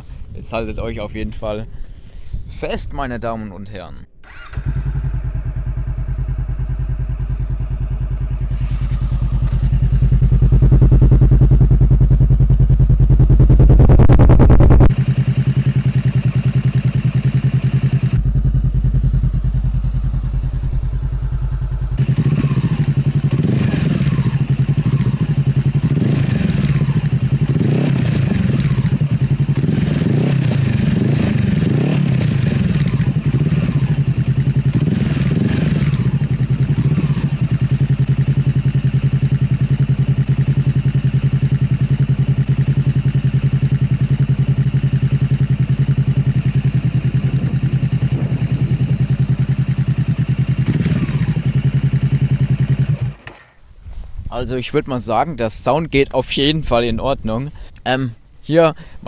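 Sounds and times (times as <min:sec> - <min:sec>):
motorcycle engine idling: 0:04.2 - 0:53.6
motorcycle engine revving: 0:04.2 - 0:54.2.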